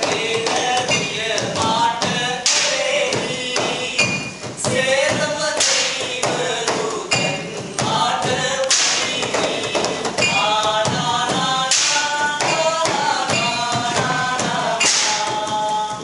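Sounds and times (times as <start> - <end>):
percussive taps and thumps: 0.0 - 16.0
voices singing a chant: 0.0 - 16.0.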